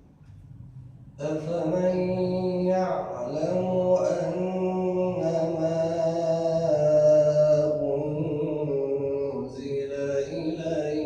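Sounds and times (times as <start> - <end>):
man reciting melodically: 1.1 - 11.0.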